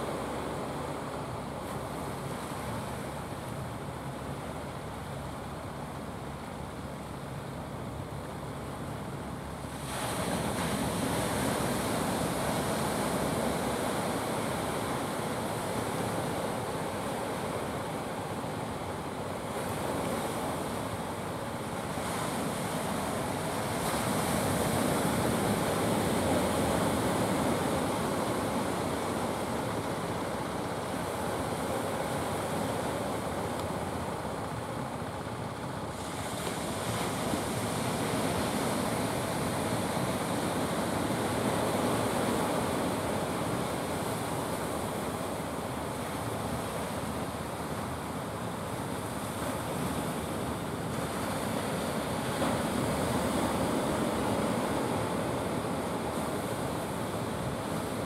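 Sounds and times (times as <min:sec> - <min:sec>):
sea surf washing on shore: 0:00.0 - 0:58.0.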